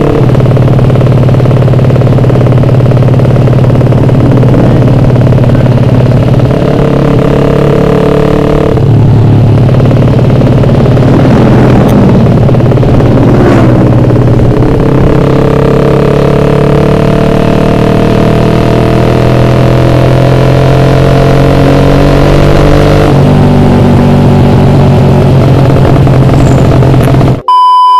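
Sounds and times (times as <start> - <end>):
motorcycle engine accelerating: 0.0 - 27.5.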